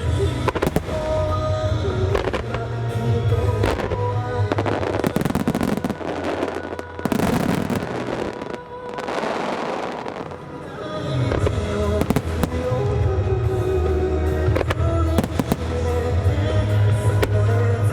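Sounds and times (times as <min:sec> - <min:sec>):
fireworks bursting and crackling: 0:00.0 - 0:17.9
music with bass: 0:00.0 - 0:17.9
sharp fireworks bangs: 0:00.0 - 0:17.9.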